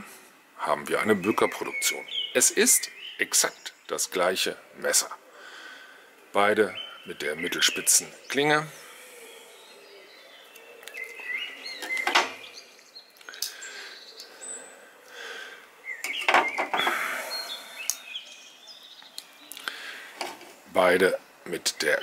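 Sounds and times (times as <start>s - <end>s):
faint birds chirping: 0.0s - 22.0s.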